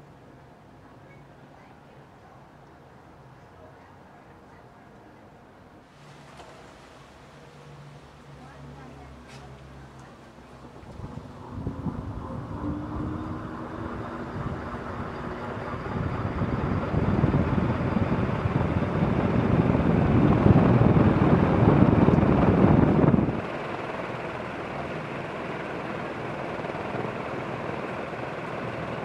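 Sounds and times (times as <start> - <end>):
ceiling fan air rush: 0.0 - 29.0.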